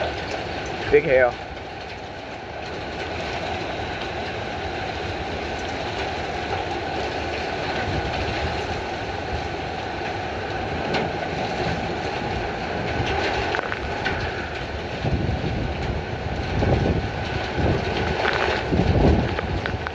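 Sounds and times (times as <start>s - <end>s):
hail clattering on hard surfaces: 0.0s - 19.9s
heavy hail falling: 0.0s - 19.9s.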